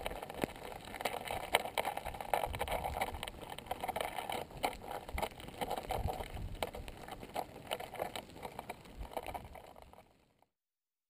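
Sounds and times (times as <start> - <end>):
lava crust crackling and popping: 0.0 - 10.5.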